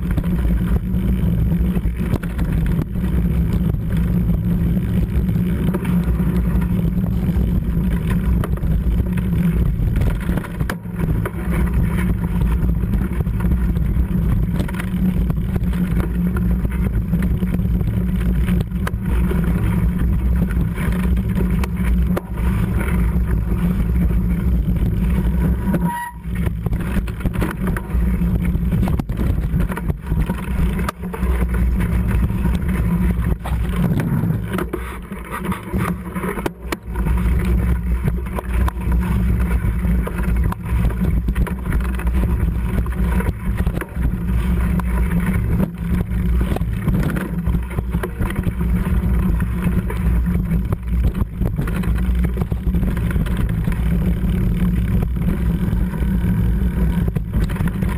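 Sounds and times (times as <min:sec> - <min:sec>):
bike knocks and rattles: 0:00.0 - 0:57.9
bike tyres rumbling on stony track: 0:00.0 - 0:57.9.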